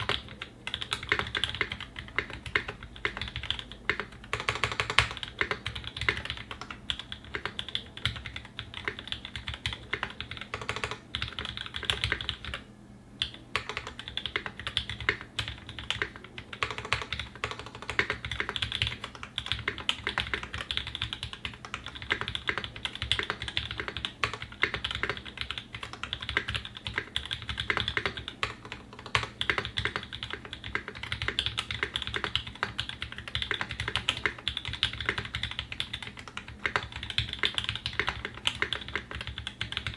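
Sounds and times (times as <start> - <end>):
mechanical keyboard typing: 0.0 - 12.6, 13.2 - 39.9.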